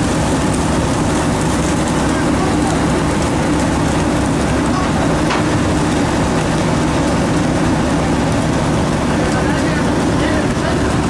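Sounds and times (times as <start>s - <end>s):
machinery low hum: 0.0s - 11.0s.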